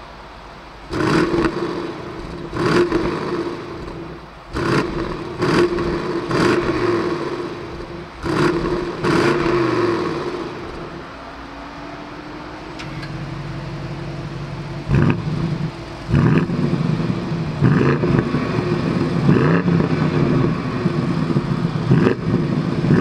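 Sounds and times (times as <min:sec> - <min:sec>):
car engine idling: 0:00.0 - 0:23.0
car engine revving: 0:00.8 - 0:23.0.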